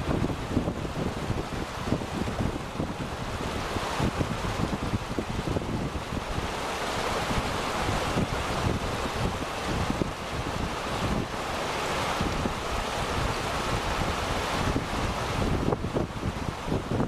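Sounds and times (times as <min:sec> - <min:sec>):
fast-flowing river rushing: 0:00.0 - 0:17.0
wind buffeting microphone: 0:00.0 - 0:17.0.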